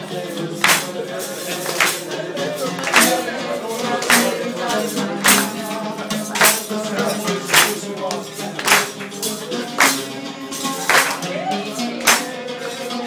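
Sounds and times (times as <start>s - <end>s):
oud playing: 0.0s - 13.0s
people clapping in unison: 0.0s - 13.0s
person singing: 0.0s - 13.0s.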